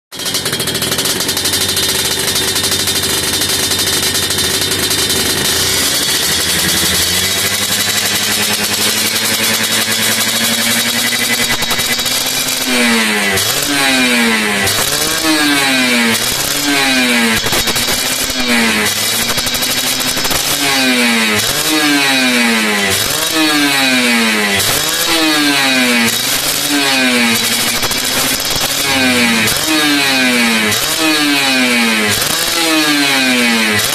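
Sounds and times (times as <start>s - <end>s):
two-stroke motorcycle engine revving: 0.1s - 33.9s.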